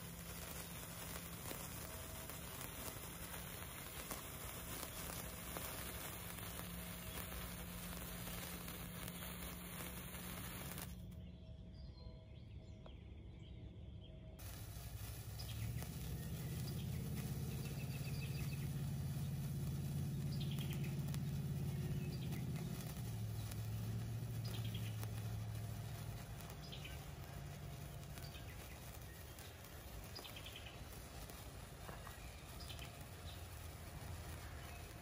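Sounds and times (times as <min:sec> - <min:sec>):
sparklers fizzing and crackling: 0:00.0 - 0:11.2, 0:14.4 - 0:35.0
bird chirps: 0:04.4 - 0:35.0.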